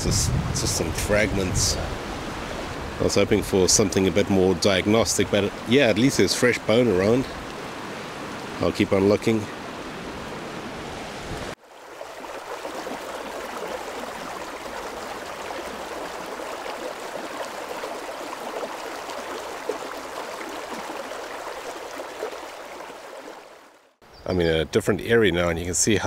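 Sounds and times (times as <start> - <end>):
river water running over stones: 0.6 - 24.0.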